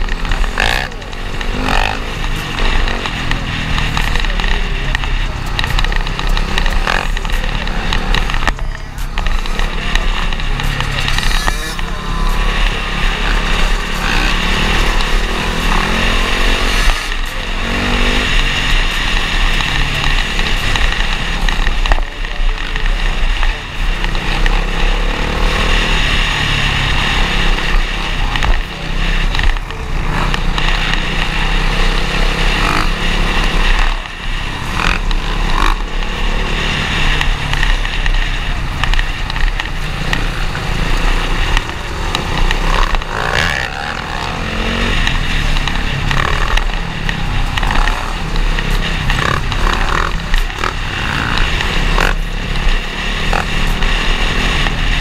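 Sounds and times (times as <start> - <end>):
dirt bike engines: 0.0 - 55.0.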